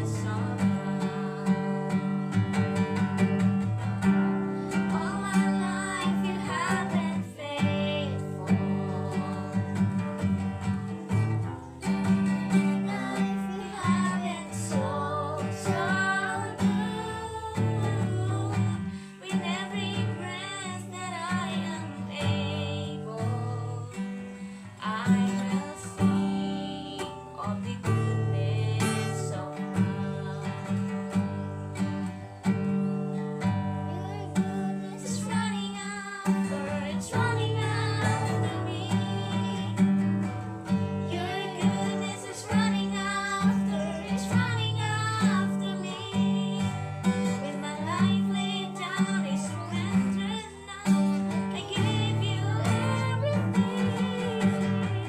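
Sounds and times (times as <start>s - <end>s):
strummed acoustic guitar: 0.0s - 55.0s
woman singing slow song: 0.0s - 55.0s.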